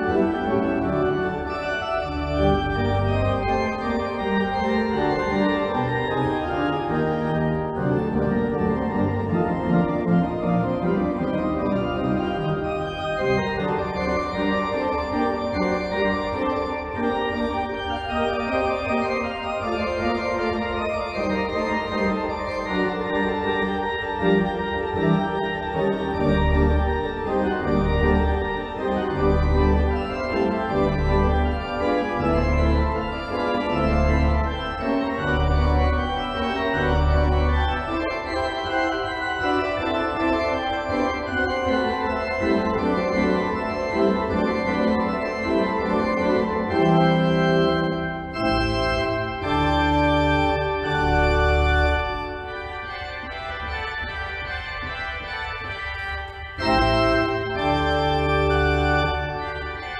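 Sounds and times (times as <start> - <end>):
organ chords: 0.0 - 59.9.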